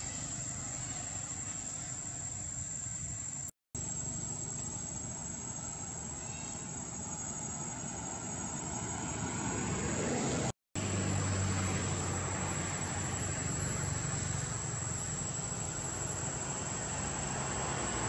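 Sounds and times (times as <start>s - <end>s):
low engine-like rumble: 0.0s - 18.0s.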